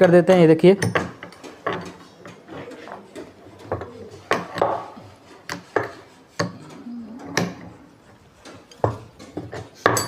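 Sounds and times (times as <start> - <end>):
metal tools clicking and knocking: 0.0 - 4.9, 5.5 - 10.0.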